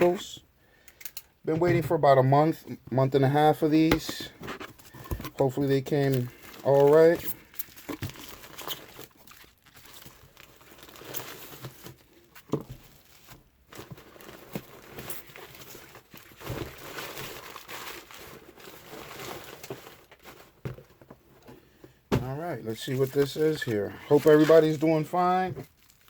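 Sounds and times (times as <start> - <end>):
packaging crinkling and rustling: 4.0 - 26.0.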